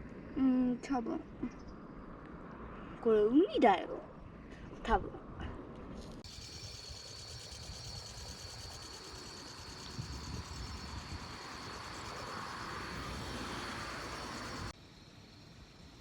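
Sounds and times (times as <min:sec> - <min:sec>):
wind rumble: 0:00.0 - 0:14.8.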